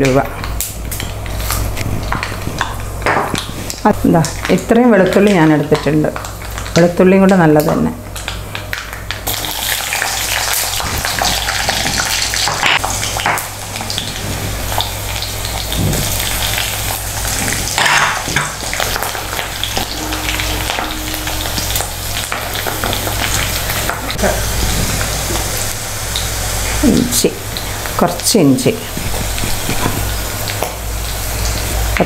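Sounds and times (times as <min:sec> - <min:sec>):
garlic sizzling in hot oil: 0:00.0 - 0:32.0.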